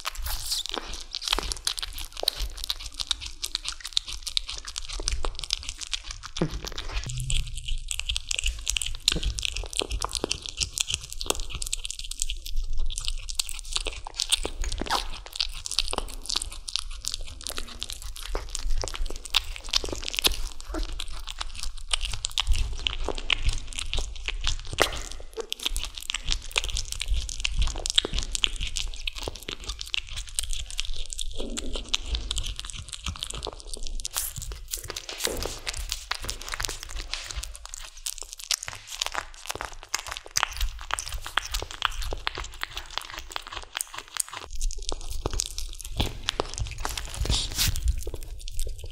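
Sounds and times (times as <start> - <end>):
kitten chewing on bone: 0.0 - 48.9.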